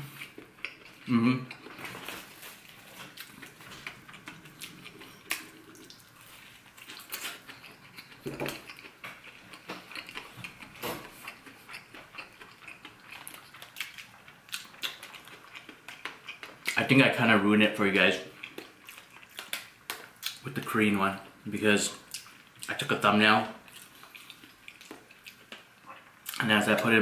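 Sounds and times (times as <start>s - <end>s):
person chewing: 0.0s - 16.8s, 18.4s - 20.4s, 22.0s - 22.7s, 23.7s - 26.4s.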